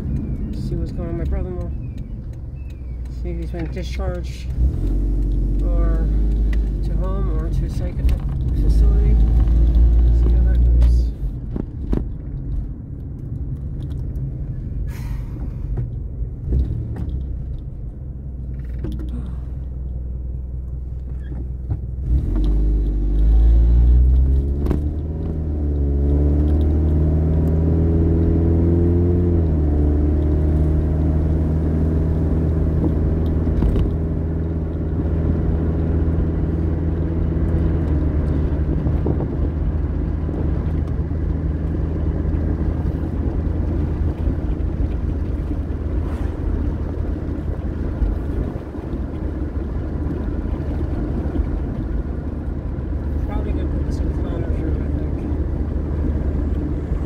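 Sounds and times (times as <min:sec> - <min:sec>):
car engine revving and droning: 0:00.0 - 0:57.0
road rumble: 0:00.0 - 0:57.0.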